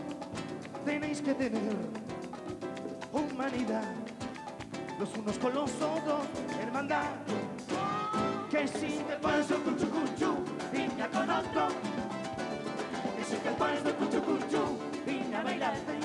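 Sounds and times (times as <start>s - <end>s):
acoustic guitars strumming rumba: 0.0s - 16.0s.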